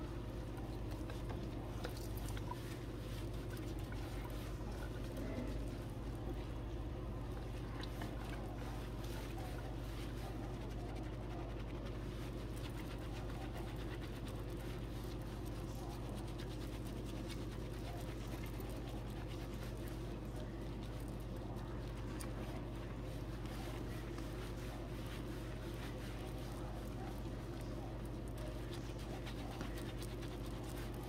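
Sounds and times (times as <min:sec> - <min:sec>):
squishy crackling shampoo lather: 0:00.0 - 0:31.0
steady low hum: 0:00.0 - 0:31.0.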